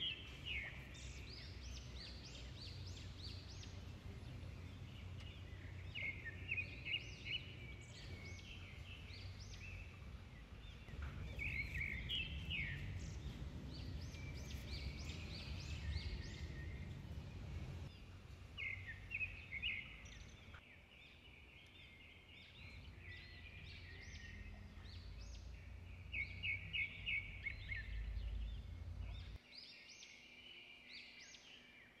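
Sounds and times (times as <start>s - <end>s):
low rumble: 0.0s - 20.5s, 24.2s - 29.4s
small birds chirping: 0.0s - 32.0s.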